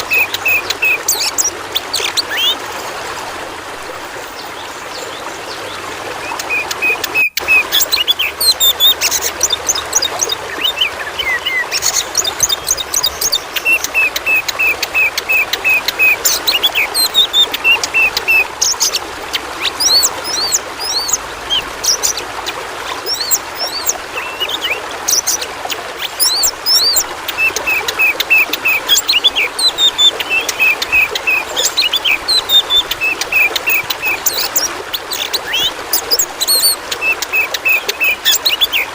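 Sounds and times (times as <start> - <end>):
bird singing: 0.0 - 2.6, 6.2 - 38.9
running water: 0.0 - 38.9.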